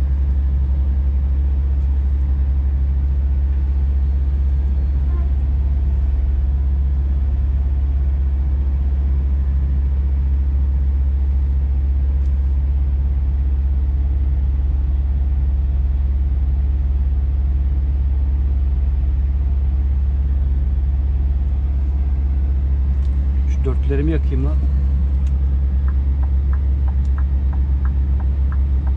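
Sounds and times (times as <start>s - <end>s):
truck diesel engine droning: 0.0s - 28.9s.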